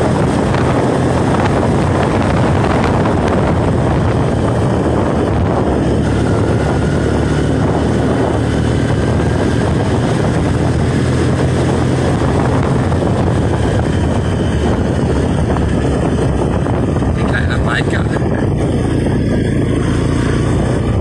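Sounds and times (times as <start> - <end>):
low engine drone: 0.0 - 21.0
wind rushing over microphone: 0.0 - 21.0.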